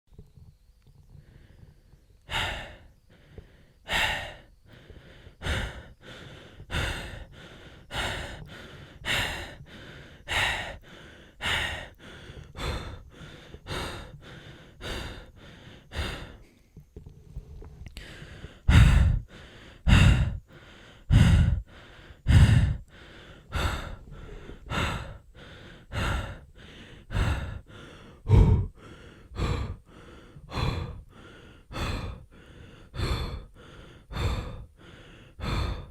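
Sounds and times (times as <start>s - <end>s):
man panting heavily: 2.3s - 16.7s, 18.0s - 35.9s.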